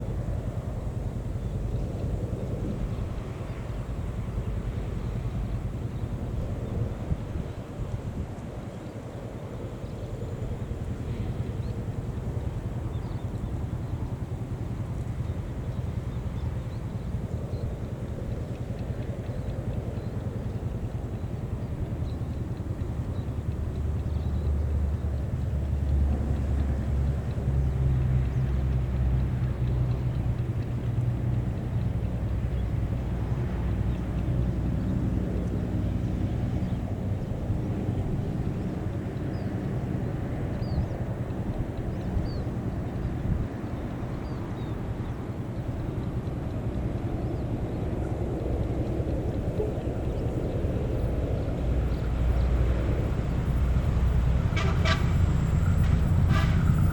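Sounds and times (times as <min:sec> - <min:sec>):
diesel locomotive rumbling: 0:00.0 - 0:56.9.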